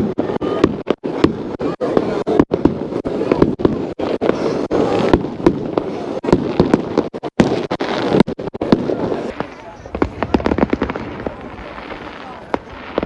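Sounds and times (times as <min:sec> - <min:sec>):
fireworks bangs: 0:00.0 - 0:13.0
rumble of explosions: 0:00.0 - 0:13.0.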